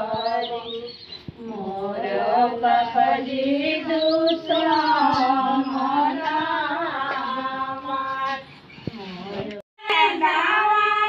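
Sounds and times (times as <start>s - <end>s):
women singing folk song: 0.0s - 11.0s.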